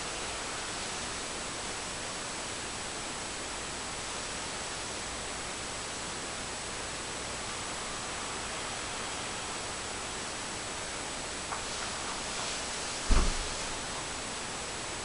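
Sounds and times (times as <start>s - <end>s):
electronics hiss: 0.0s - 15.0s.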